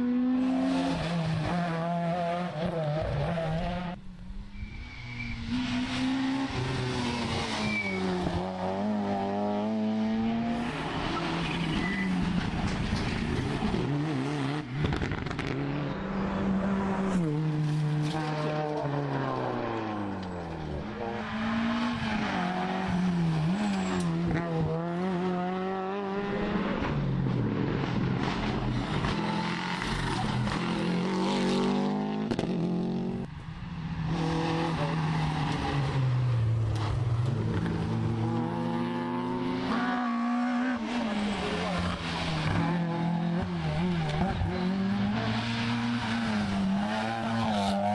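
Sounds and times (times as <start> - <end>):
rally car engines revving: 0.0 - 47.9.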